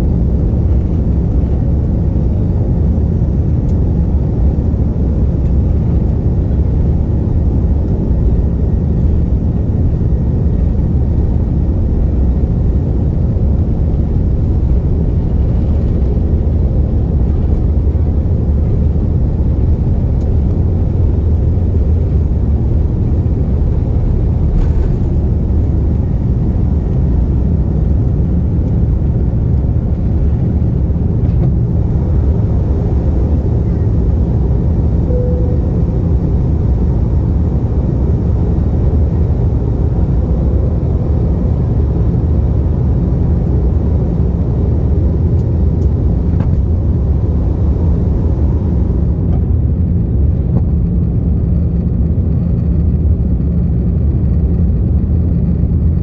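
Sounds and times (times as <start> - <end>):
jet engines roaring: 0.0 - 55.9.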